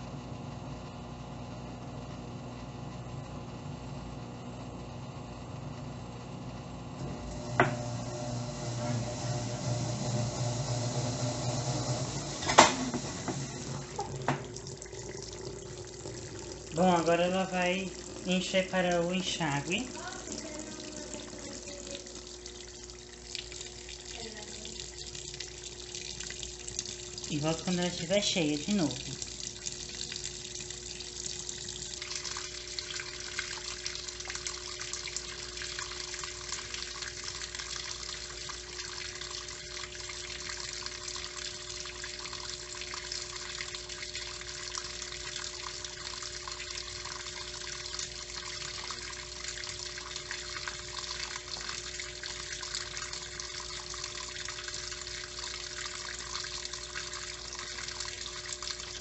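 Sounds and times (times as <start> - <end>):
water pouring into tub: 7.3 - 59.0.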